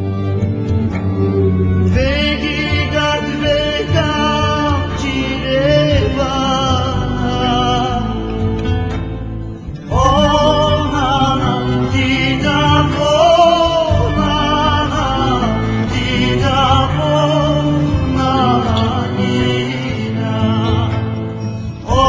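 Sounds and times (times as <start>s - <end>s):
person singing with vibrato: 0.0s - 8.9s, 9.8s - 22.0s
instrumental backing: 0.0s - 22.0s.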